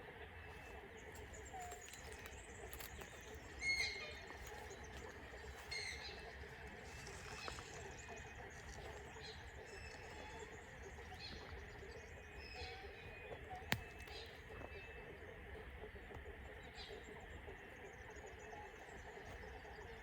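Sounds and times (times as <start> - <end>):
wild birds calling: 0.0 - 20.0.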